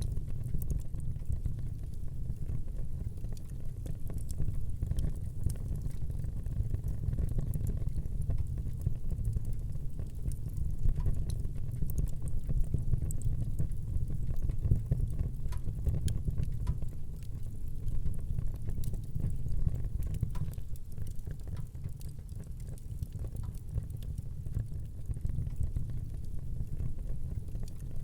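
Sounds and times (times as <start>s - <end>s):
fire crackles and pops: 0.0s - 28.0s
low rumble of flames: 0.0s - 28.0s.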